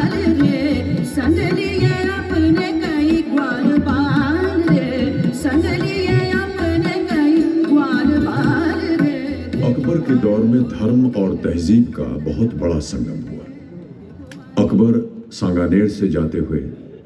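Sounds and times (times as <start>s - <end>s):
tabla: 0.0s - 17.0s.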